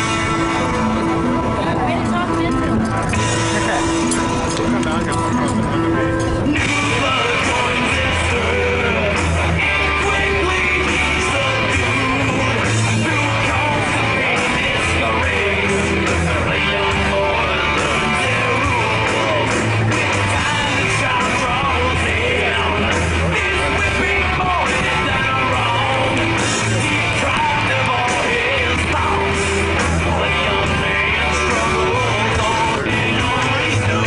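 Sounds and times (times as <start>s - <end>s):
rock music with singing: 0.0s - 34.0s.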